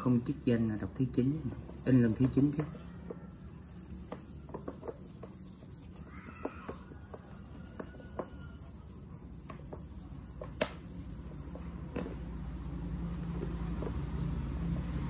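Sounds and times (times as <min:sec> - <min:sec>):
books being handled: 0:01.4 - 0:15.0.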